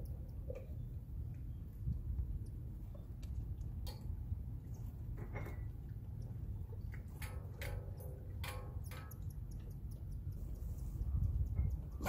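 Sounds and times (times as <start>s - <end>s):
low steady hum: 0.0s - 12.0s
small clicks: 0.0s - 12.0s.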